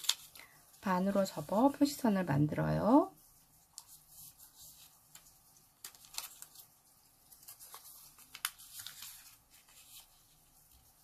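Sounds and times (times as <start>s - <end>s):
paper rustling and crackling: 0.0s - 1.8s, 3.4s - 11.0s.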